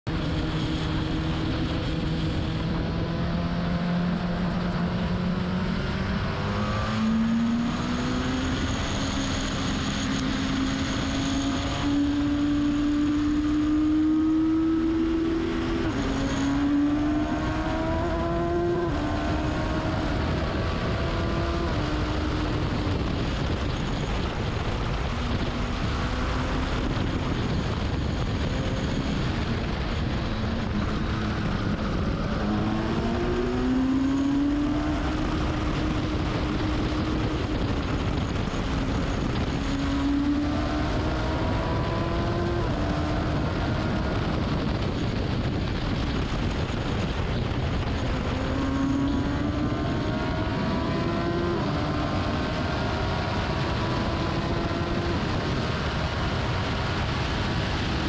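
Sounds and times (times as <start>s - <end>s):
wind and road noise: 0.0s - 58.0s
racing car engine revving: 0.1s - 58.0s.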